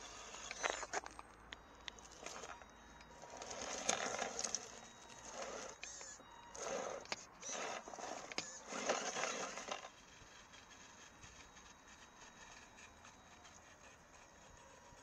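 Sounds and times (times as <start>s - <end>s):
toy truck tyres crunching over rocks: 0.0s - 15.0s.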